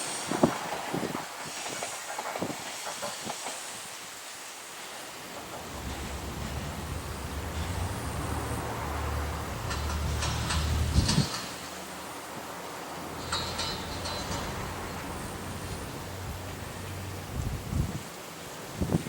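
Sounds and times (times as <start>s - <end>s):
hiss: 0.0s - 19.0s
wheels clunking over rail joints: 0.0s - 19.0s.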